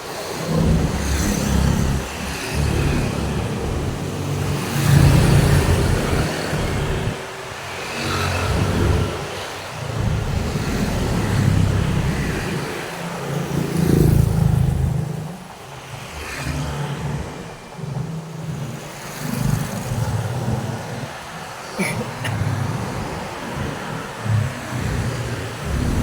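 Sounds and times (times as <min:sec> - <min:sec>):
cars passing: 0:00.0 - 0:26.0
motorbikes passing: 0:00.0 - 0:26.0.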